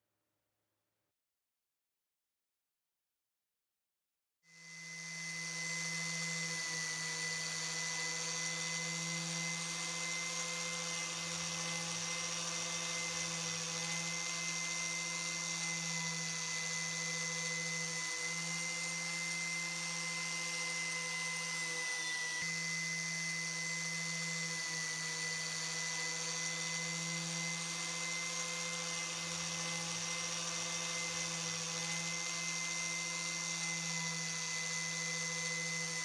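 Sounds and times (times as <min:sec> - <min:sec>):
power tool motor whine: 0:04.5 - 0:36.0.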